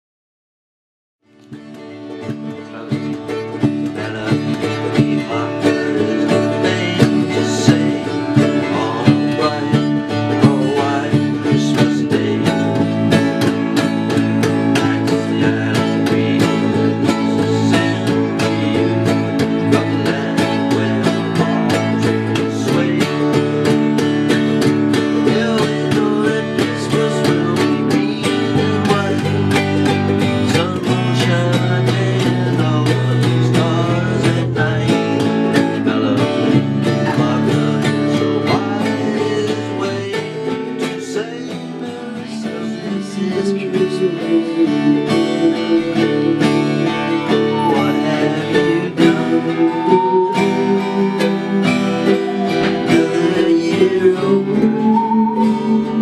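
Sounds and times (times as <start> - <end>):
country instrumental on plucked strings: 1.2 - 56.0.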